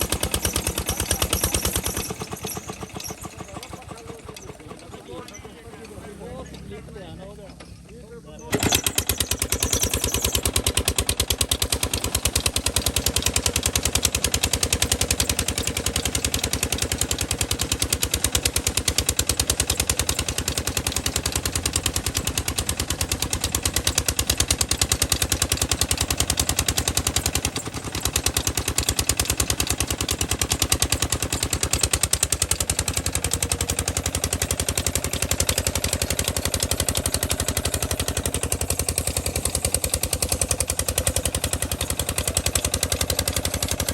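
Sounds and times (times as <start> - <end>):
diesel engine running steadily: 0.0 - 43.9.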